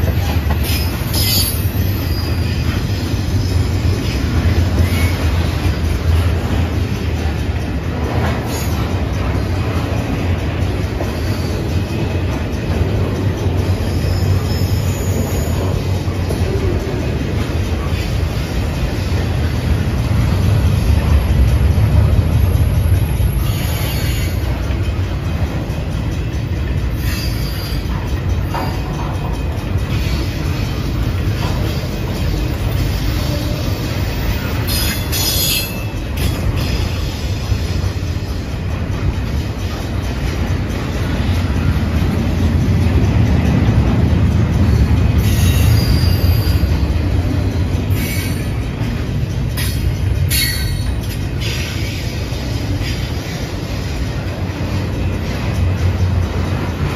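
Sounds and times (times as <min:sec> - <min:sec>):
freight train wheels rumbling: 0:00.0 - 0:56.9.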